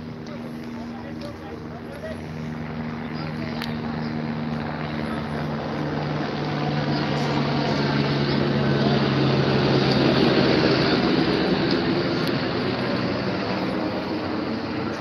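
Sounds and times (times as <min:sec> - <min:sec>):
broad rushing noise: 0:00.0 - 0:15.0
low engine drone passing: 0:00.0 - 0:15.0.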